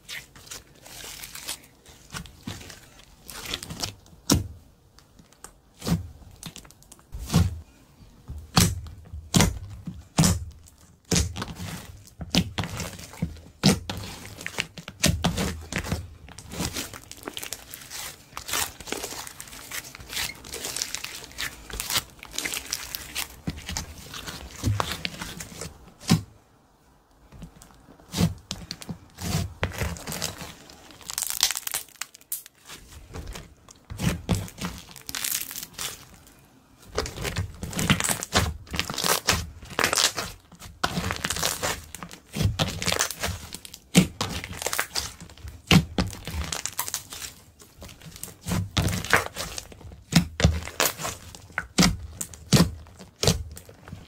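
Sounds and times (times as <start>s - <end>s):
slime kneaded by hand: 0.0s - 26.4s, 27.2s - 54.0s.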